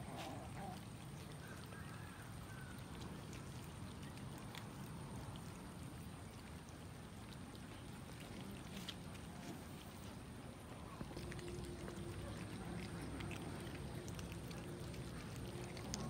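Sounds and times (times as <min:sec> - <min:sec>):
cats chewing and smacking: 0:00.0 - 0:16.0
low background noise: 0:00.0 - 0:16.0.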